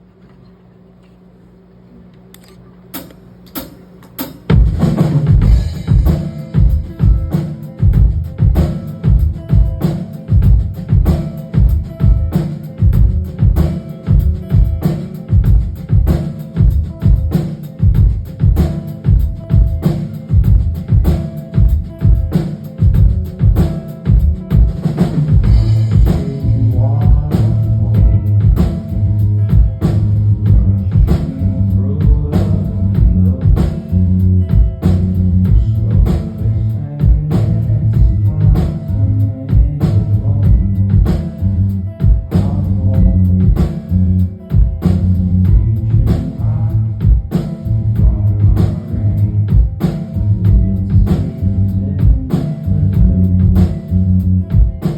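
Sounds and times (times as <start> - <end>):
drum kit beat: 3.0 - 54.9
bass guitar: 4.4 - 54.9.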